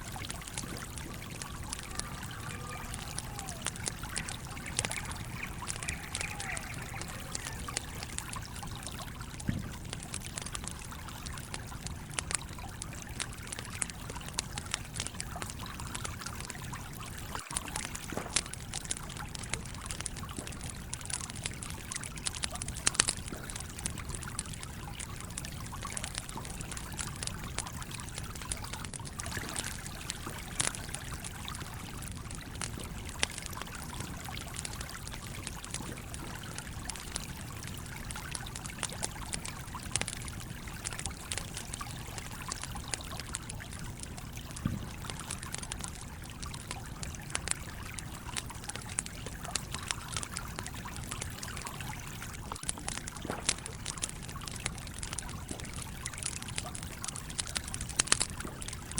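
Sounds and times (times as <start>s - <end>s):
campfire crackling and popping: 0.0s - 58.9s
stream flowing: 0.0s - 58.9s.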